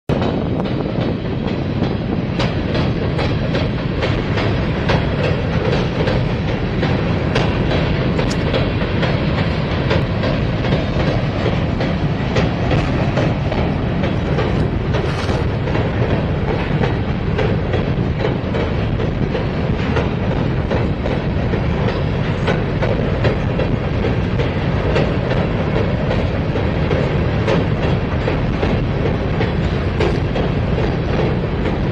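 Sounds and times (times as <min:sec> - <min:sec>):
freight train rumbling over bridge: 0:00.1 - 0:31.9
wheels clicking over rail joints: 0:00.1 - 0:31.9.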